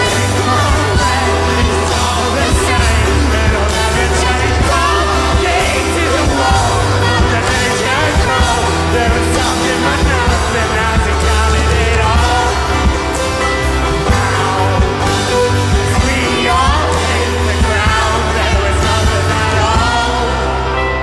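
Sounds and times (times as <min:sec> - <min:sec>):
electric guitar: 0:00.0 - 0:21.0
man and woman singing: 0:00.0 - 0:21.0
strong steady bass: 0:00.0 - 0:21.0.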